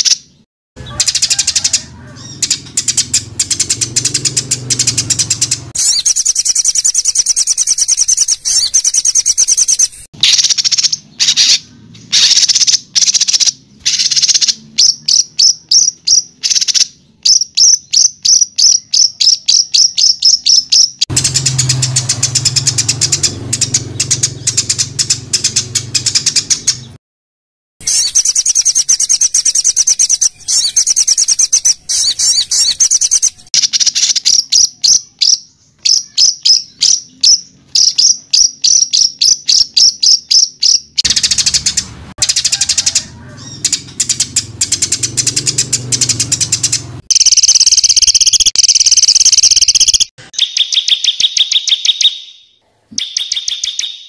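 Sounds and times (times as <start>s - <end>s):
songbird high-pitched repeated notes: 0.0s - 27.0s, 27.8s - 54.0s
dense high bird trills: 0.8s - 27.0s, 27.8s - 54.0s.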